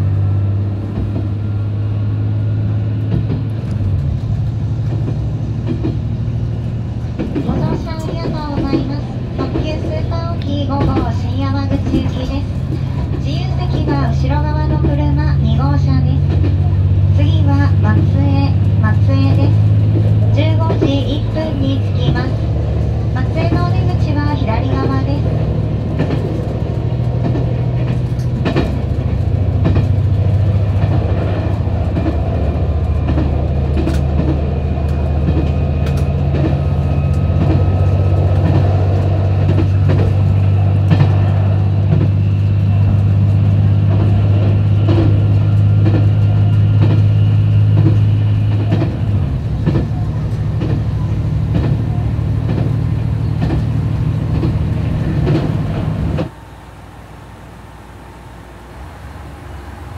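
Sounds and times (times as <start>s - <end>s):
train running drone: 0.0s - 59.9s
wheels clicking over rail joints: 2.4s - 56.7s.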